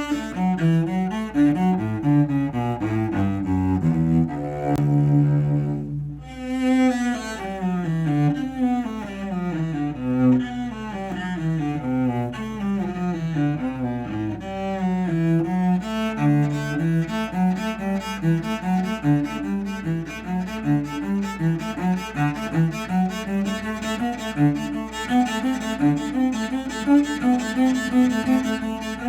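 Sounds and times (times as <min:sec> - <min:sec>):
cello being bowed: 0:00.0 - 0:29.0.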